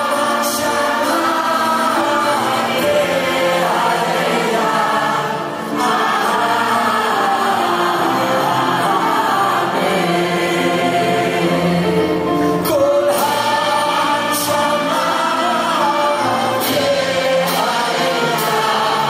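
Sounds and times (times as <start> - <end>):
choir singing: 0.0 - 19.0
orchestra strings and piano: 0.0 - 19.0.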